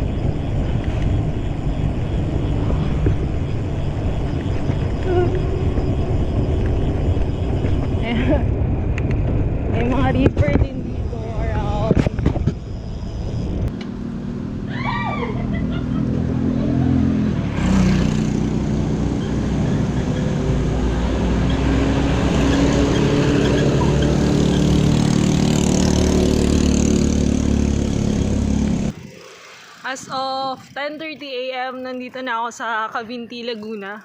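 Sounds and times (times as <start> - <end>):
vehicle engine running: 0.0 - 14.6, 15.4 - 32.6
road and wind noise: 0.0 - 34.0.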